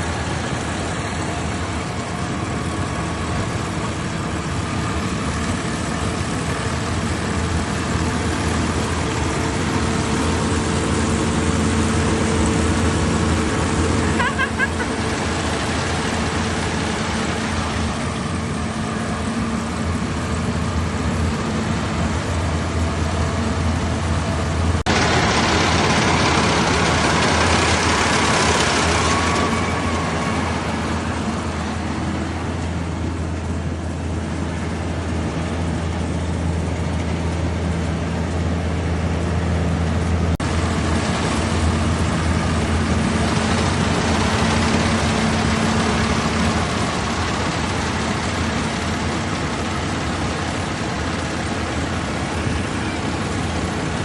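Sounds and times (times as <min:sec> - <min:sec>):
combine harvester engine running: 0:00.0 - 0:54.0
rushing noise: 0:00.0 - 0:54.0.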